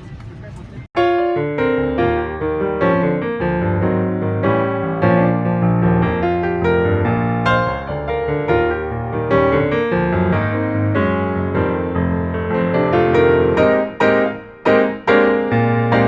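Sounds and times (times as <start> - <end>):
piano playing chords: 1.0 - 16.0.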